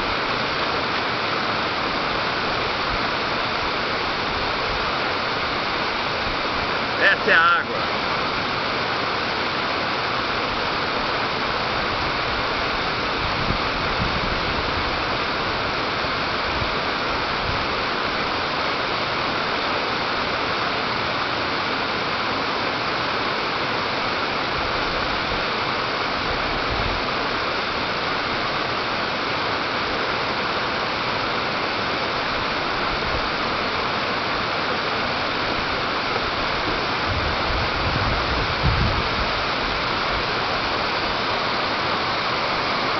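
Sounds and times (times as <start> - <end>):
rushing water: 0.0 - 42.9.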